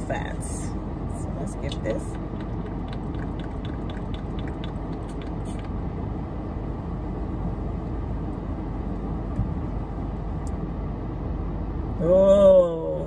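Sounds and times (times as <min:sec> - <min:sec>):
low rumble inside a car: 0:00.0 - 0:13.0.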